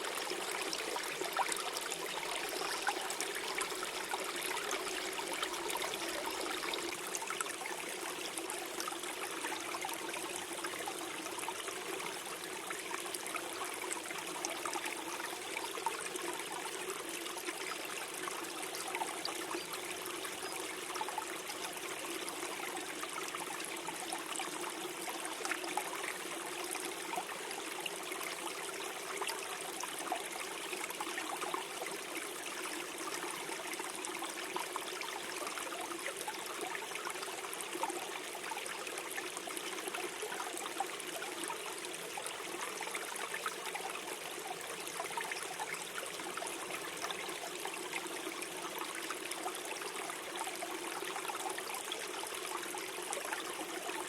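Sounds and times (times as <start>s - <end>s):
stream gurgling over stones: 0.0s - 54.0s.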